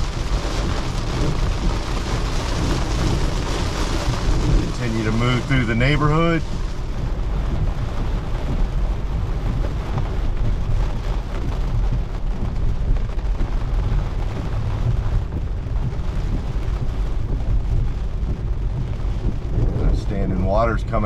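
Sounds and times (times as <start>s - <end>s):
low road rumble: 0.0s - 21.0s
rain falling on car: 0.0s - 21.0s.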